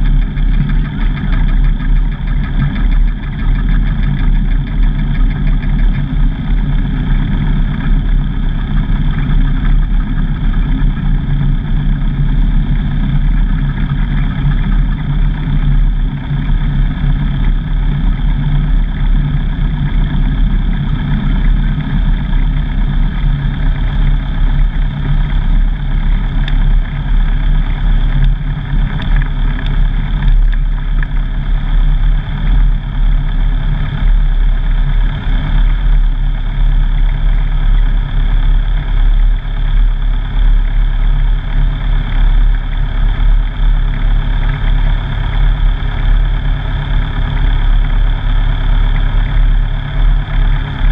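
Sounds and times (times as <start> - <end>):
aircraft piston engine and propeller: 0.0 - 50.9.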